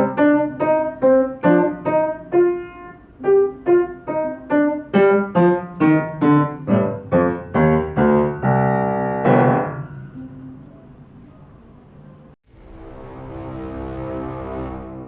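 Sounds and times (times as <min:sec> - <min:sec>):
piano single notes: 0:00.0 - 0:12.2
piano chords ringing: 0:00.0 - 0:12.3.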